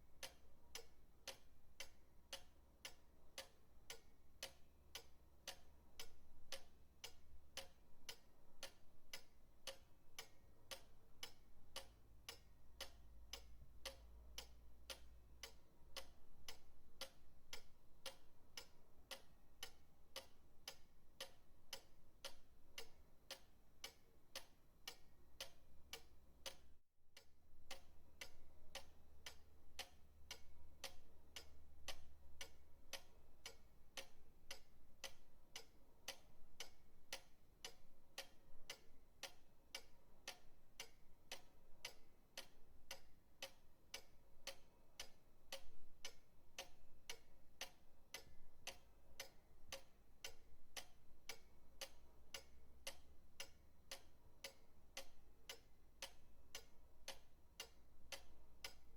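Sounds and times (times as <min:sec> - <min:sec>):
pendulum clock ticking: 0:00.0 - 0:58.9.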